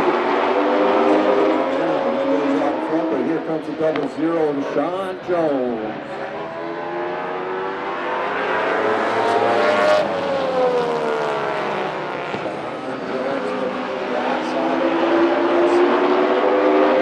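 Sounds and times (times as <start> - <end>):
race cars passing by: 0.0 - 17.0.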